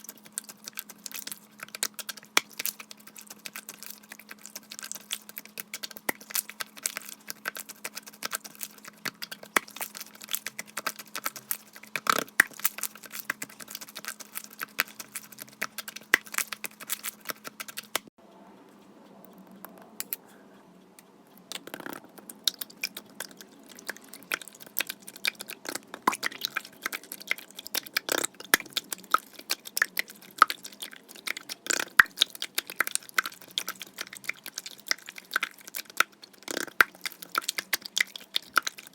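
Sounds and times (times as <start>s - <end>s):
slime squishing: 0.0s - 18.1s, 21.5s - 38.9s.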